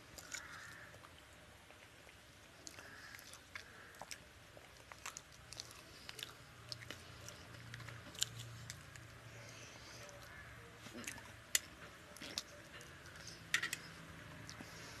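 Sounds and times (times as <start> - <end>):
wet chewing clicks and smacks: 0.1 - 9.2, 10.0 - 14.8.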